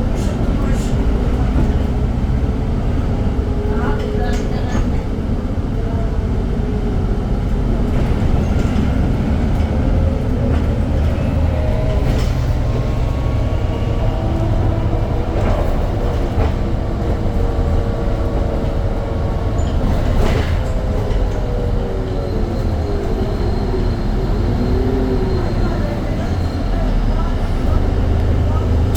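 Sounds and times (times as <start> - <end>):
bus drivetrain rumble: 0.0 - 28.9.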